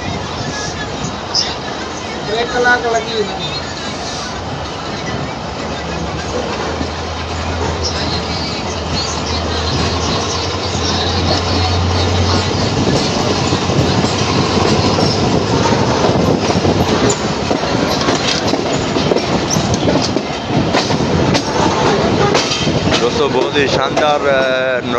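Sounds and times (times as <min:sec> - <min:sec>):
train wheel and carriage noise: 0:00.0 - 0:24.9.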